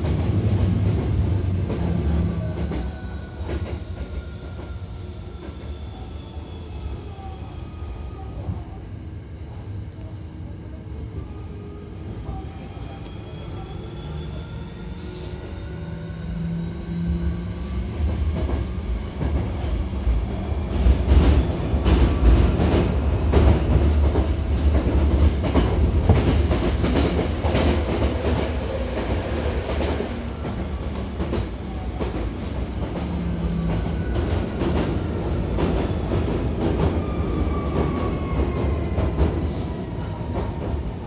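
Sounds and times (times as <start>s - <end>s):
falling whine of slowing train: 0.0s - 41.0s
train low rumble: 0.0s - 41.0s.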